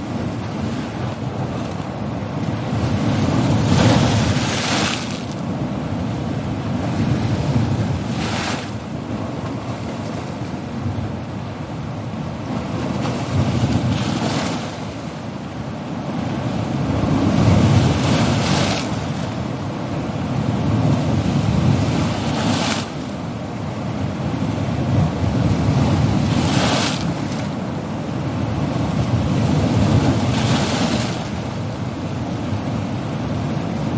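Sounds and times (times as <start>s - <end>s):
sea waves crashing on coast: 0.0s - 33.9s.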